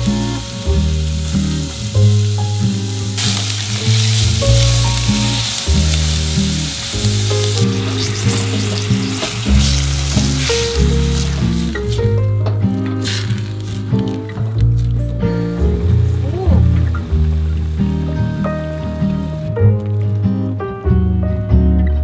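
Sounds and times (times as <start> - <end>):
onion sizzling in a pot: 0.0 - 19.5
background music: 0.0 - 22.0.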